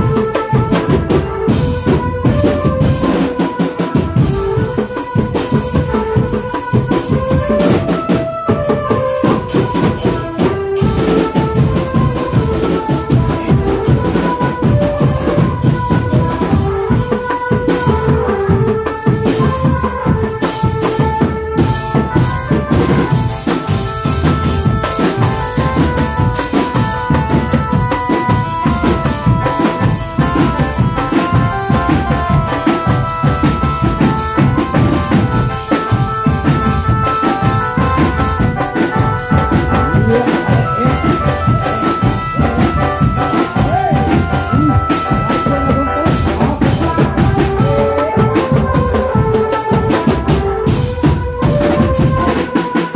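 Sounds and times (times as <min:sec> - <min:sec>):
drum band music: 0:00.0 - 0:52.9.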